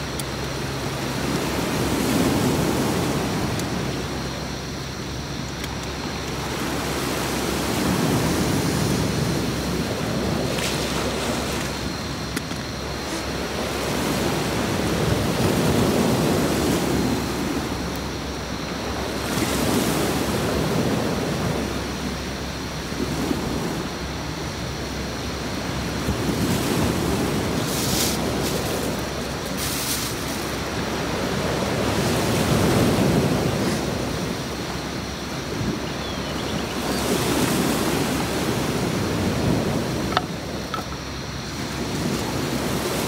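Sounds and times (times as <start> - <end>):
sea waves washing onto beach: 0.0 - 43.0.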